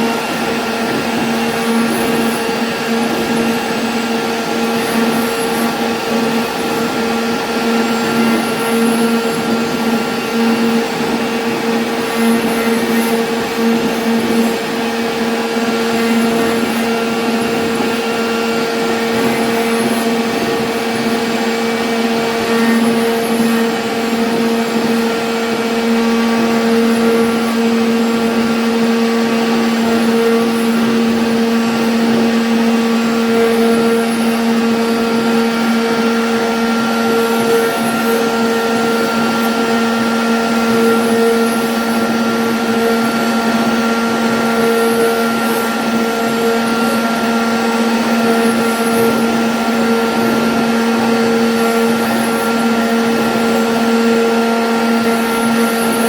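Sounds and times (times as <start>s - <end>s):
router cutting wood: 0.0s - 56.0s
router spindle whine: 0.0s - 56.0s.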